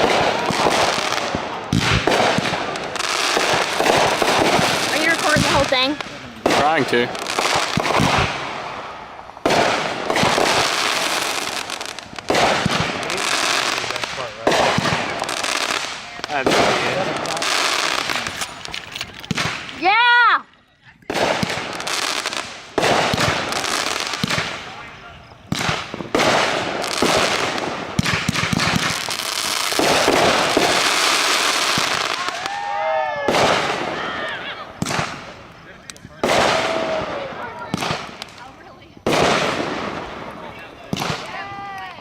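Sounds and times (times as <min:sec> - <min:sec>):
firework bursts: 0:00.0 - 0:42.0
firework crackling: 0:00.0 - 0:42.0.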